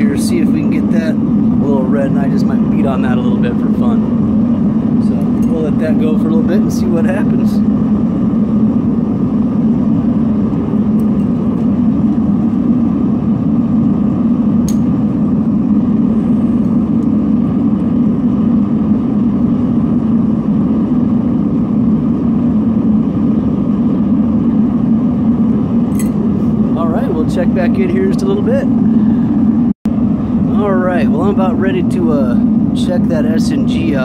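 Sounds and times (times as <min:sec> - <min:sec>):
furnace burner roaring: 0:00.0 - 0:34.0.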